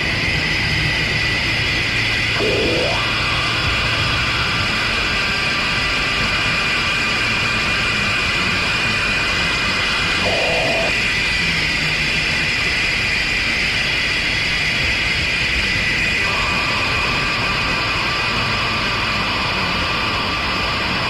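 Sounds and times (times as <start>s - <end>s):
harsh noise hiss and rumble: 0.0s - 21.0s.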